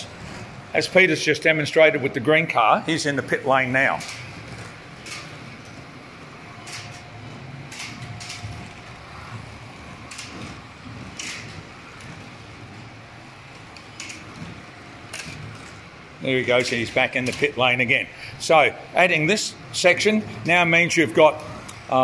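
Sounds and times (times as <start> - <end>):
slot car motors whirring: 0.0 - 22.0.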